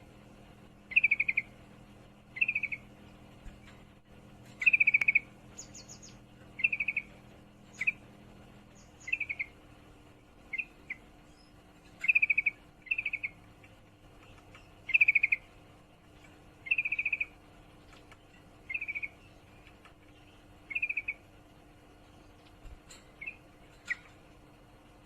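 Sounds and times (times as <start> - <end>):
bird chattering trills: 0.9 - 1.6, 2.3 - 9.6, 10.4 - 21.3, 22.1 - 24.4.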